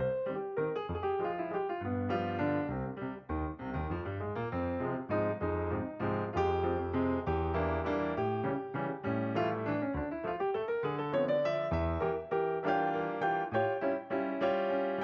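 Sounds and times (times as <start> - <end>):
upbeat electric piano music: 0.0 - 15.0.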